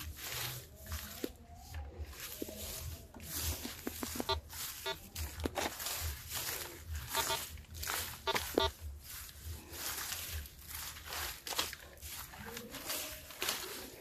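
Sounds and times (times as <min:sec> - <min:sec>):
footsteps on dry leaves: 0:00.0 - 0:14.0.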